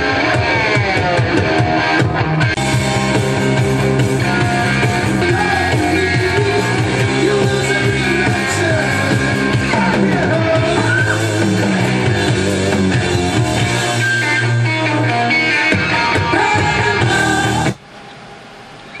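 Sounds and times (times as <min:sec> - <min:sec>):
rock song with singing and guitar: 0:00.0 - 0:17.8.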